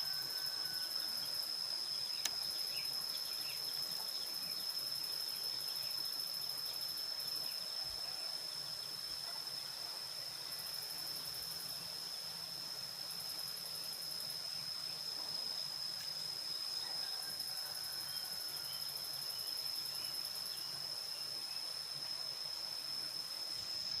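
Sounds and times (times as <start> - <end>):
crickets trilling: 0.0 - 24.0
fast pulsed insect chirping: 0.0 - 24.0.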